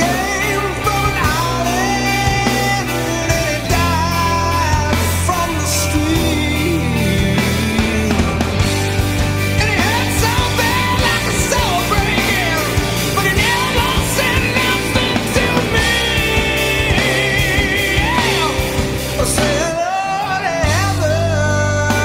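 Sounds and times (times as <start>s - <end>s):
electric guitar: 0.0s - 22.0s
rock music recording: 0.0s - 22.0s.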